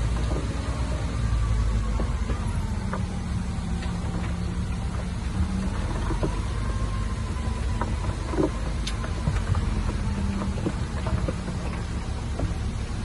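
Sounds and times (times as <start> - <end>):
diesel machinery running: 0.0 - 13.0.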